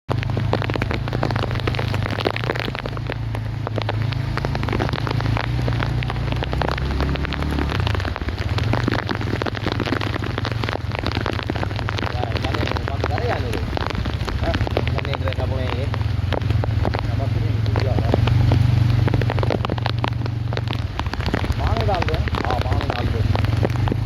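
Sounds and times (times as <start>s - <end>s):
heavy rain falling: 0.1s - 24.0s
steady low rumble: 0.1s - 24.0s.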